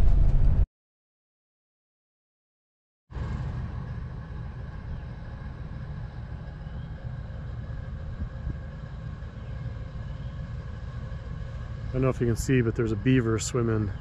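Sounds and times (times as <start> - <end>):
low rumble: 0.0 - 0.7, 3.1 - 14.0.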